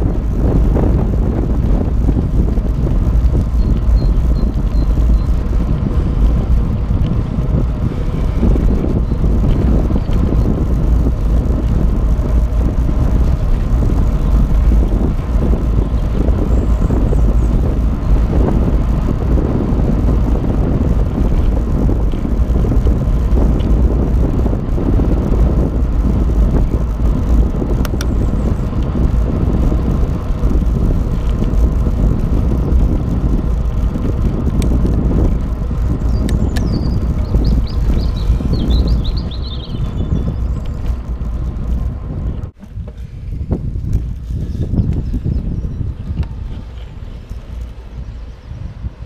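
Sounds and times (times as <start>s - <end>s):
bicycle tyre and road noise: 0.0s - 49.0s
wind rumble on microphone: 0.0s - 49.0s.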